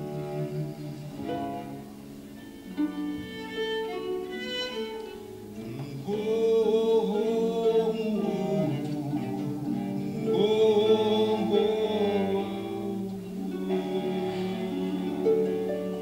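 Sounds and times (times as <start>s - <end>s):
cello playing: 0.0s - 16.0s
harp playing: 0.0s - 16.0s.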